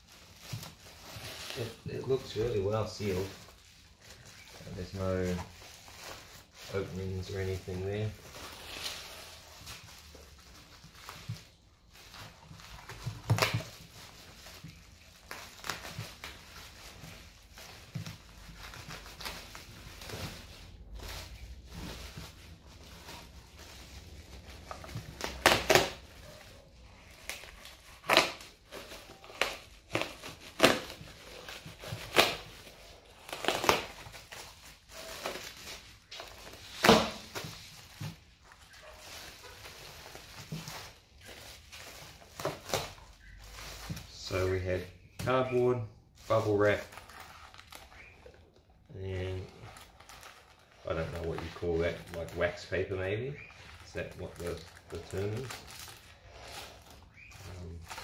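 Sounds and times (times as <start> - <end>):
bubble wrap crackles: 0.0 - 58.0
bubble wrap crinkling and tearing: 0.0 - 58.0.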